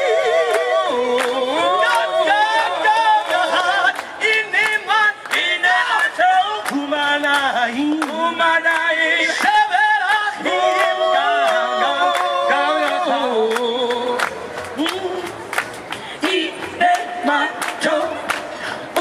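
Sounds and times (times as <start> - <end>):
group singing unaccompanied: 0.0 - 15.4, 16.2 - 19.0.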